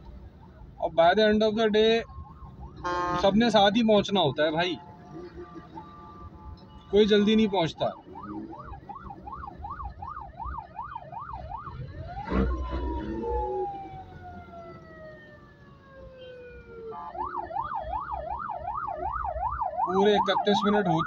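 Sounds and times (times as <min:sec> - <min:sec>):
ambulance siren yelp and wail: 0:00.0 - 0:21.0
road traffic rumble: 0:00.0 - 0:21.0.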